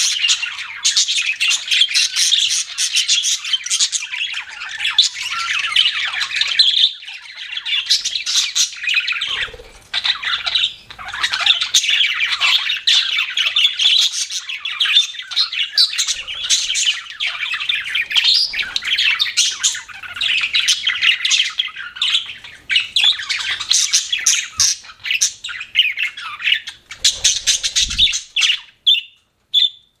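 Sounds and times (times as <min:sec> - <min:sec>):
budgerigars chirping and chattering: 0:00.0 - 0:29.9.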